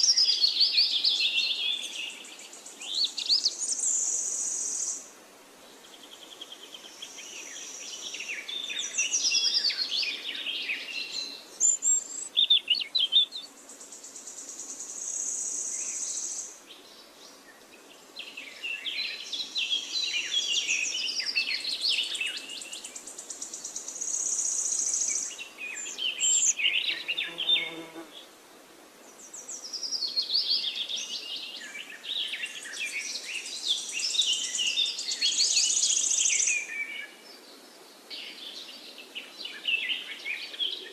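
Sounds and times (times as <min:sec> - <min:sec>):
small birds singing: 0:00.0 - 0:28.4, 0:29.0 - 0:40.9.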